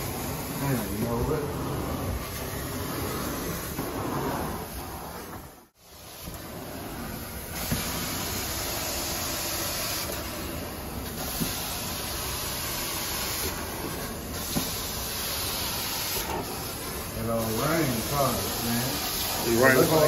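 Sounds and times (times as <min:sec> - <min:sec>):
carpet extraction wand hissing: 0:00.0 - 0:20.0.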